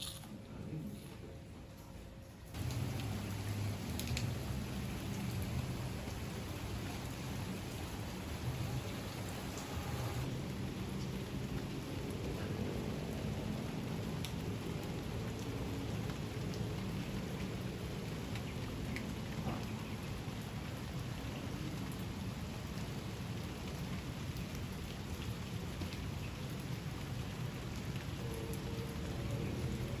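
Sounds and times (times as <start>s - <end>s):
steady rain falling: 1.7s - 30.0s
raindrop ticks: 2.5s - 12.6s, 13.6s - 29.9s.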